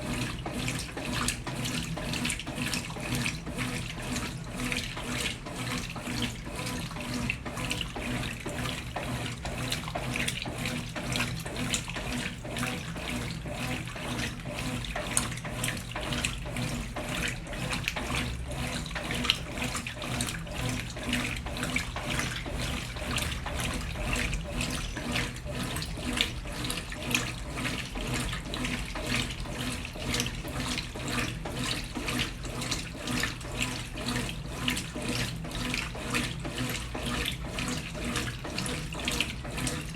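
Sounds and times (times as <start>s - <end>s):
water splashing in washing machine: 0.0s - 39.9s.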